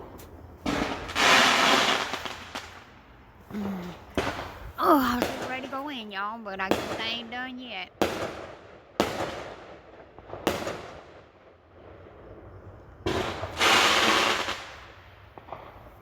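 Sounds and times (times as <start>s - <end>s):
fireworks banging: 0.0s - 11.2s, 13.0s - 15.9s
fireworks crackling: 0.0s - 16.0s.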